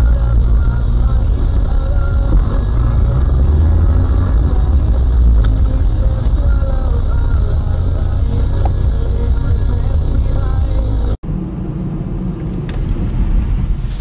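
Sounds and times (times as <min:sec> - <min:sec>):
moving car rumble: 0:00.0 - 0:14.0.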